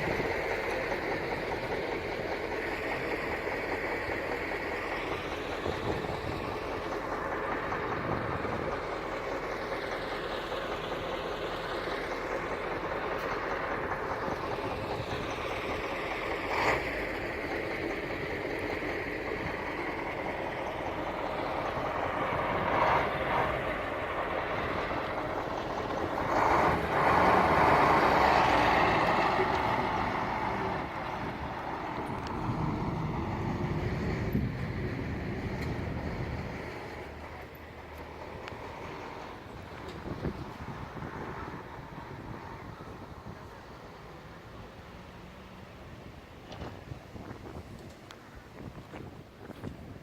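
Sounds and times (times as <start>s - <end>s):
heavy earth-moving machinery running: 0.0s - 50.0s.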